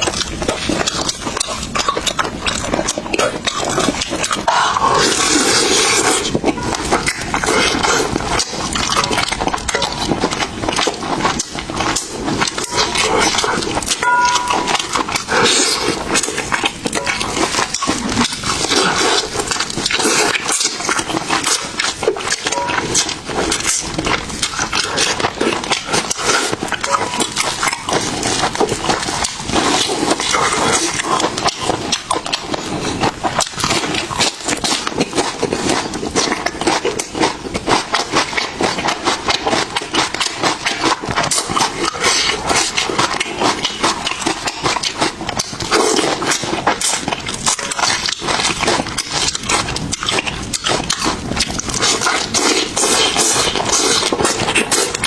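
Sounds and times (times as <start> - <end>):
chewing and mouth sounds: 0.0 - 55.0.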